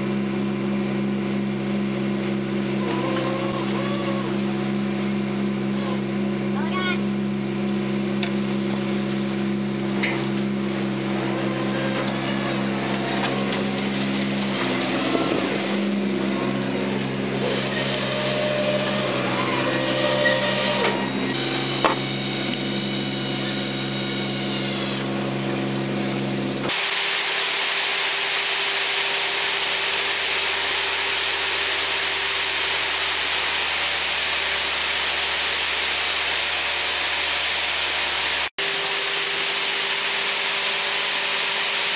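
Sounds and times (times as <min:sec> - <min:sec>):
boat engine droning: 0:00.0 - 0:41.9.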